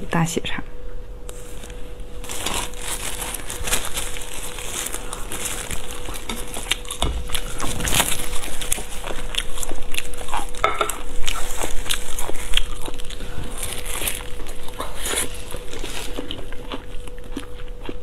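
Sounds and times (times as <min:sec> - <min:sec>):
faint steady hum: 0:00.0 - 0:18.0
plastic gloves crinkling: 0:01.3 - 0:16.5
wet chewing and smacking: 0:02.4 - 0:18.0.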